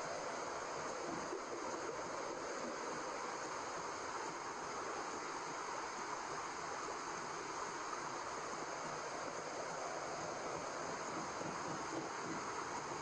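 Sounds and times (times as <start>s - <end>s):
steady white noise: 0.0s - 13.0s.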